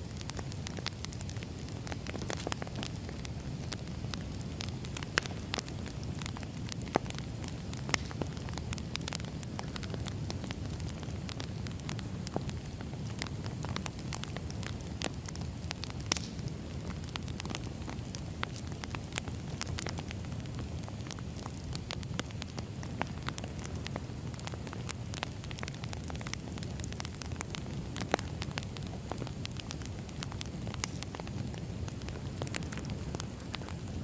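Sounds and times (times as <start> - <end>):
fire crackling and popping: 0.0 - 34.0
firewood burning: 0.0 - 34.0.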